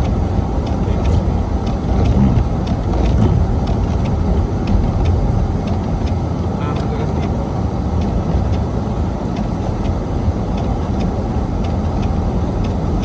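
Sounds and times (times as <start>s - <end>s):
faint irregular ticks: 0.0s - 8.7s, 9.3s - 13.0s
car engine and road rumble: 0.0s - 13.0s.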